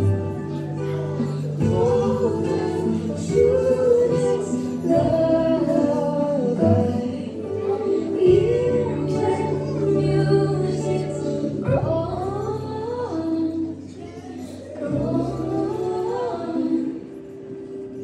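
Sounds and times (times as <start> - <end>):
person singing: 0.0 - 18.0.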